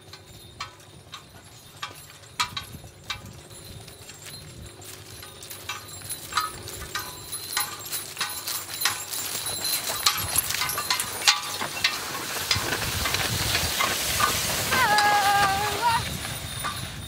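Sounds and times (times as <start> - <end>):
harness chains clinking: 0.0 - 17.0
horse hooves walking: 0.0 - 17.0
plough cutting through soil: 0.0 - 17.0.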